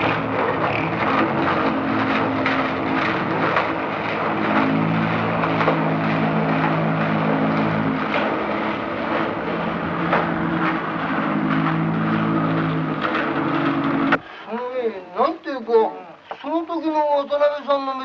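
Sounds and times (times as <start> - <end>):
construction machinery engines droning: 0.0 - 18.0.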